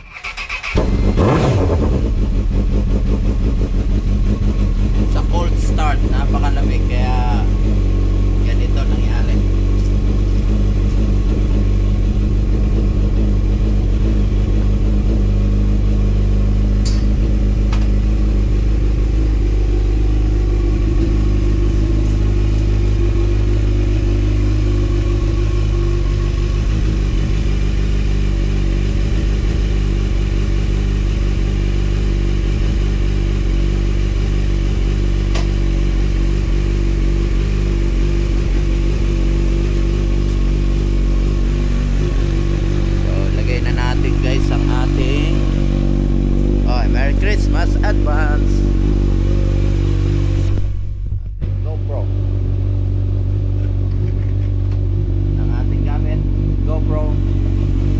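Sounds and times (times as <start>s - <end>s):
motorcycle engine idling: 2.0s - 57.9s.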